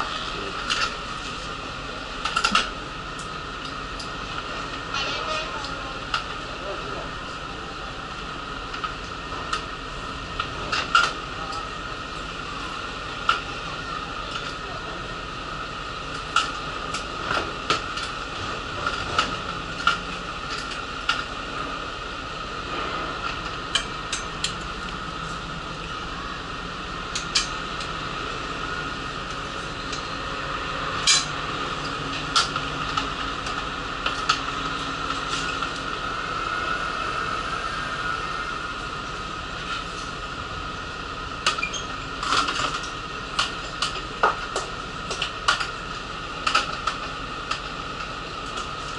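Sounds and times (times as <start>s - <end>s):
bus mechanical hum: 0.0s - 48.9s.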